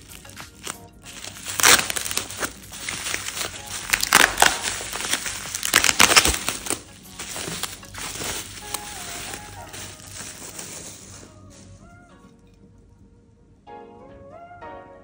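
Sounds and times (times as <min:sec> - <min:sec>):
bubble wrap crinkling: 0:00.0 - 0:12.3.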